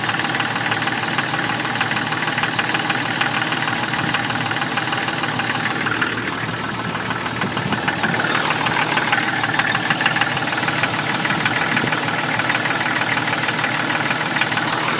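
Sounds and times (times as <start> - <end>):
engine running: 0.0 - 14.9
rapid engine knock: 0.0 - 14.9.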